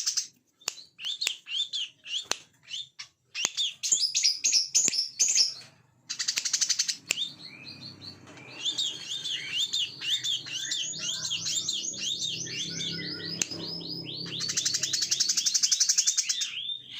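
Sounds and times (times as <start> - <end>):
bird singing trills and chirps: 0.0 - 16.9.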